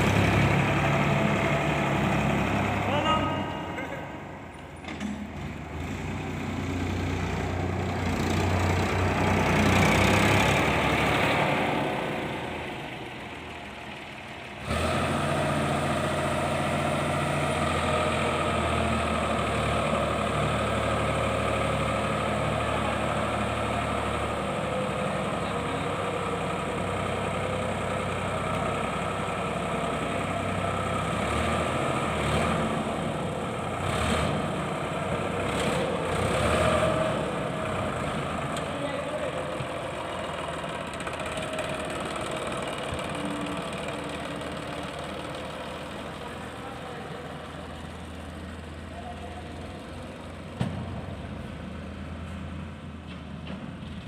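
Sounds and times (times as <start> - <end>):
diesel tractor engine: 0.0 - 54.0.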